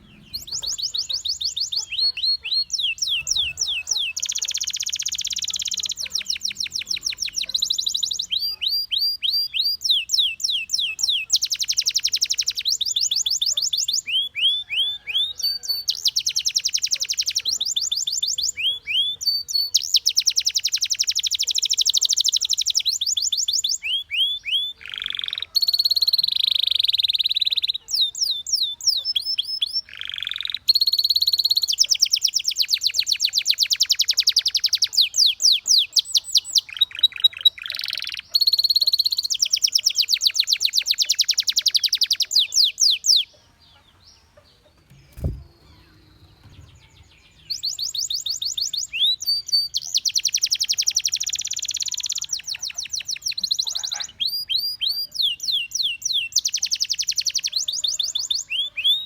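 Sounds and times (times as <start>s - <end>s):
canary singing in fast trills: 0.0s - 59.0s.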